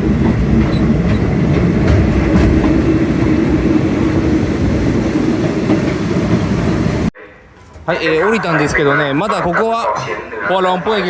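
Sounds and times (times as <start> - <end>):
train carriage rumbling and rattling: 0.0 - 11.0.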